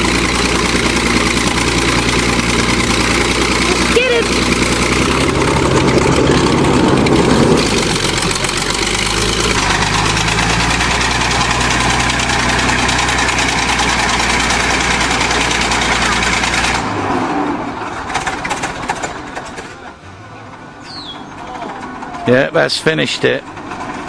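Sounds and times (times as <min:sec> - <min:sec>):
bulldozer diesel engine running hard: 0:00.0 - 0:24.0.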